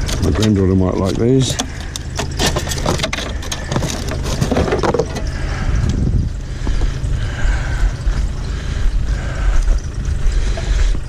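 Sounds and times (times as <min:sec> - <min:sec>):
car engine running: 0:00.0 - 0:11.0
engine knocks and rattles: 0:00.0 - 0:11.0
fan belt squealing: 0:00.0 - 0:11.0.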